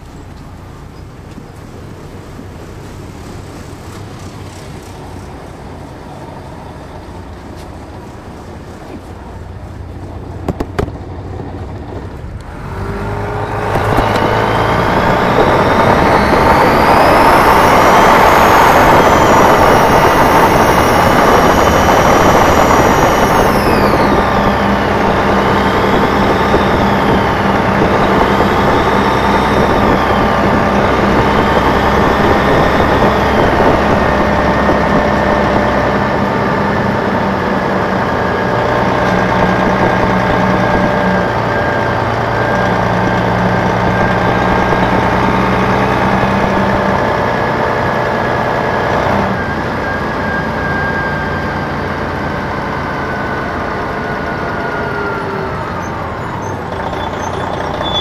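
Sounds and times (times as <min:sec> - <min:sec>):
diesel bus engine running: 0:00.0 - 0:58.0
high engine whine: 0:00.0 - 0:58.0.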